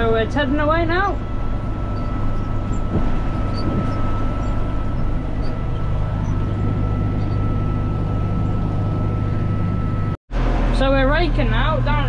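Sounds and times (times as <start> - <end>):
high whine: 0.0 - 12.0
tractor diesel engine drone: 0.0 - 12.0.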